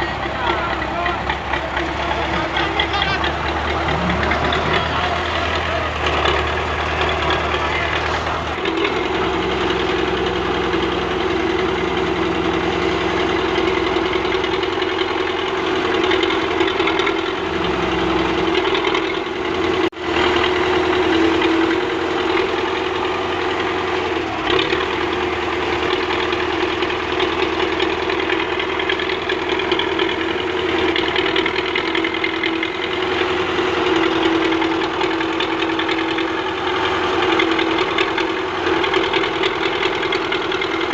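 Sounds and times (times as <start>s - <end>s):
tractor engine droning: 0.0s - 40.9s.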